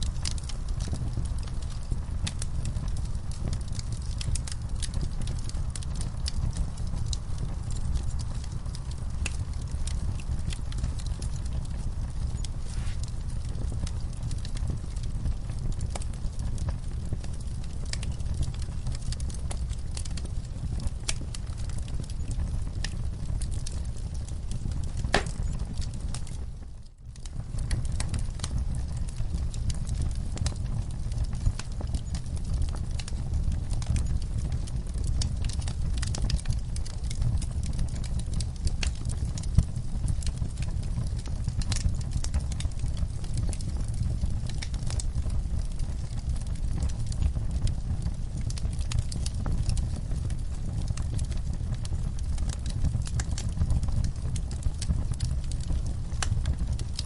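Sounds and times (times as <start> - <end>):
fire rumbling and crackling: 0.0 - 57.0.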